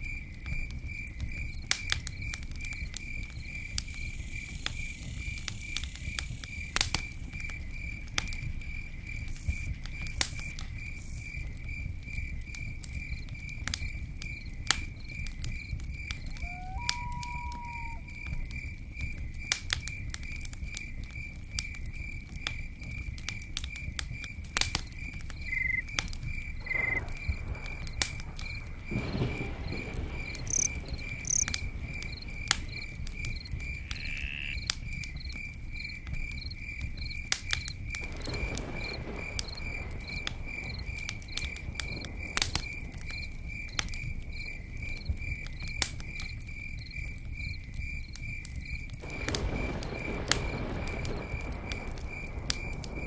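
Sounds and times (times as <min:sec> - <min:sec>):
campfire crackling and popping: 0:00.0 - 0:53.0
cricket chirping: 0:00.0 - 0:53.0.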